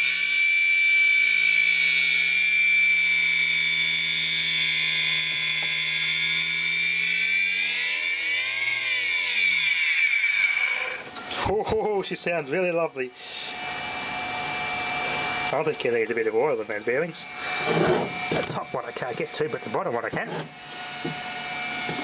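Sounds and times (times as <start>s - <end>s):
pump motor whining: 0.0s - 11.6s, 12.8s - 22.0s.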